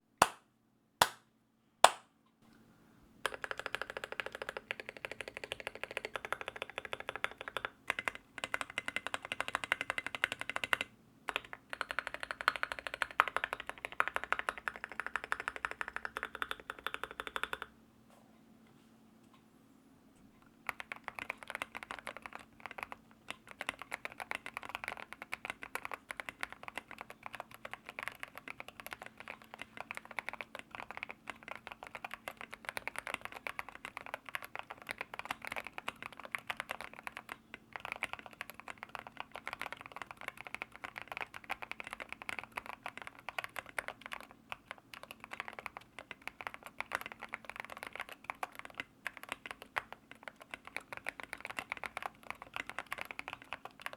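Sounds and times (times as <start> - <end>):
fast mechanical keyboard typing: 3.2 - 17.7, 20.6 - 53.9.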